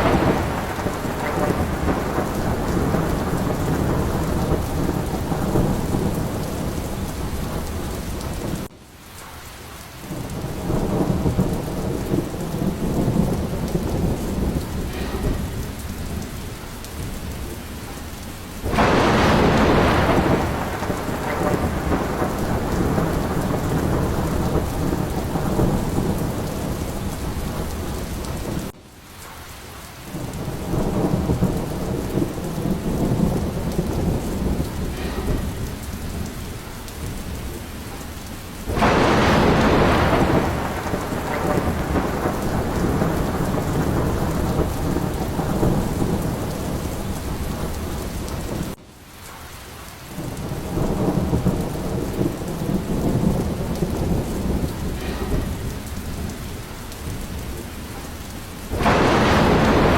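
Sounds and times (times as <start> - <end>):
low rolling thunder: 0.0 - 8.7, 10.0 - 28.8, 30.1 - 48.8, 50.1 - 59.9
sharp thunderclap: 0.0 - 8.7, 10.1 - 28.8, 30.1 - 48.8, 50.1 - 59.9
steady rain: 0.0 - 59.9.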